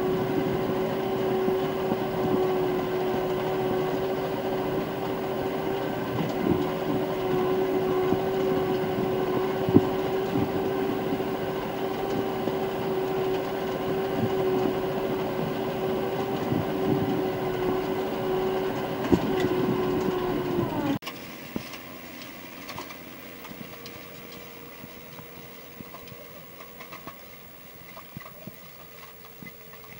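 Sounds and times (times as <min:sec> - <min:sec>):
tractor engine droning: 0:00.0 - 0:29.9
tractor pulling seed drill: 0:00.0 - 0:29.9.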